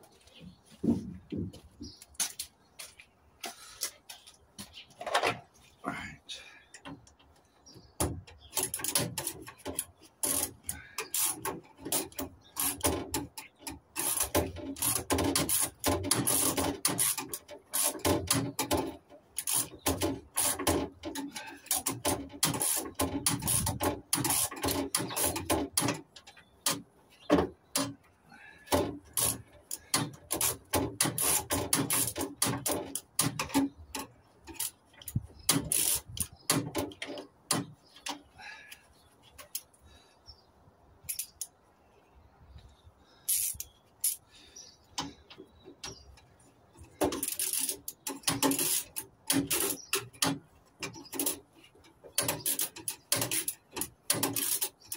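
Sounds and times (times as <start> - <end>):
metallic clicking and scraping: 6.7 - 39.8, 41.0 - 41.6, 43.2 - 54.9.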